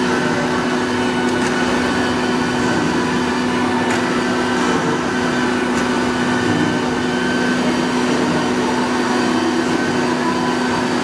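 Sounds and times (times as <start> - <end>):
router spindle whine cutting wood: 0.0 - 11.0.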